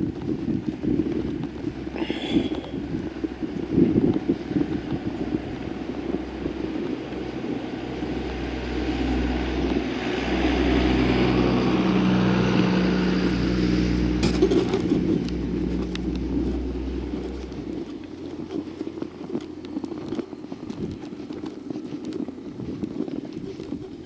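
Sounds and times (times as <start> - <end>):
vehicle passing: 0.2 - 22.5.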